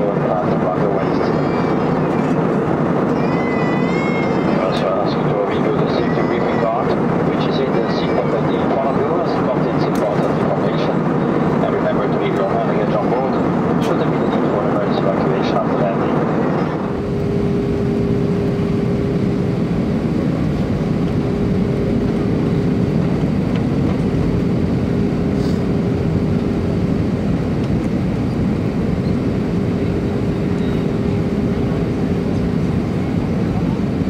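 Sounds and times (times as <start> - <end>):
airflow and engine rush: 0.0 - 34.0
steady hum: 0.0 - 34.0.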